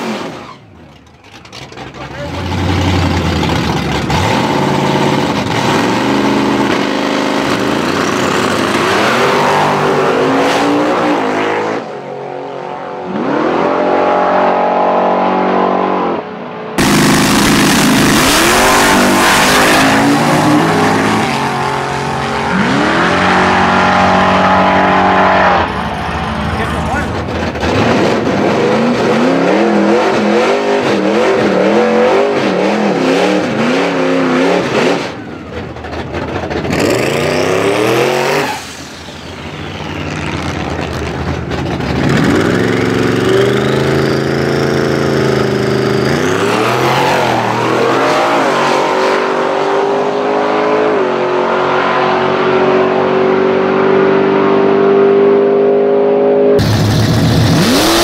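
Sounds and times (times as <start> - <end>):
car engine revving and accelerating: 2.2 - 35.2, 36.5 - 38.8, 39.9 - 58.0.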